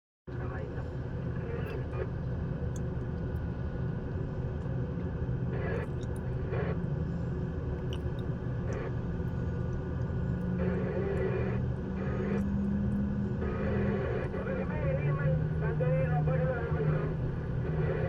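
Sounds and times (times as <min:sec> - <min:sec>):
heavy machine engine droning: 0:03.5 - 0:18.0.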